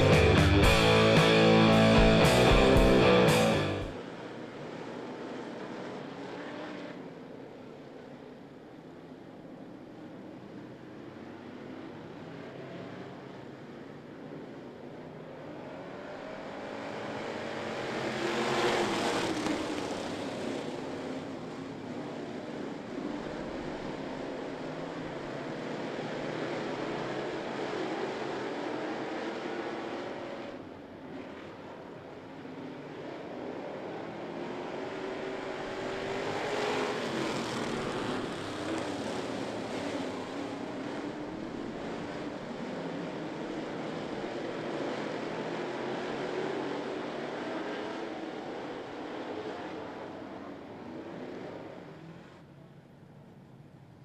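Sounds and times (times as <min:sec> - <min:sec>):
race car engines passing: 0:00.0 - 0:52.7.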